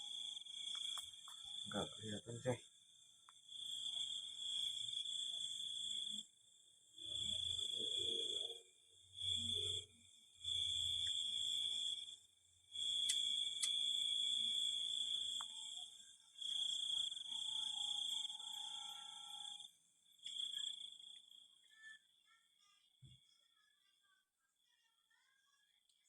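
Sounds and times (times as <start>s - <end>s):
insect high-pitched trill: 0.0s - 23.5s.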